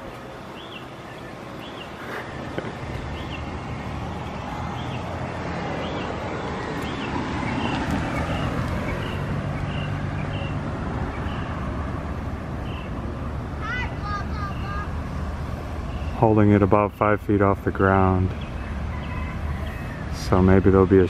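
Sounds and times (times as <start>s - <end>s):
car passing: 0.0s - 21.0s.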